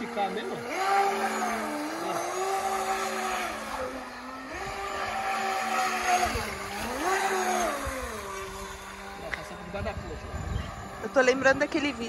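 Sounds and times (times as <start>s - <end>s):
electric boat motor whining: 0.0s - 12.0s.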